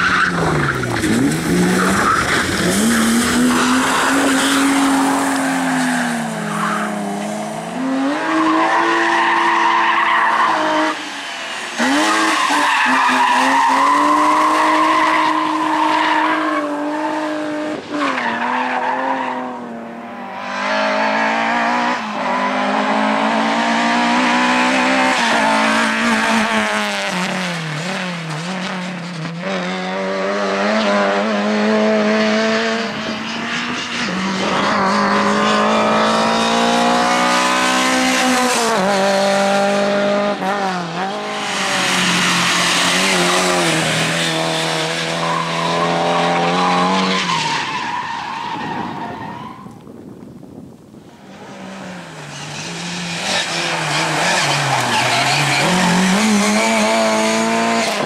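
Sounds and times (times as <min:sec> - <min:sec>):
rally car engines revving: 0:00.0 - 0:49.8, 0:51.2 - 0:58.0.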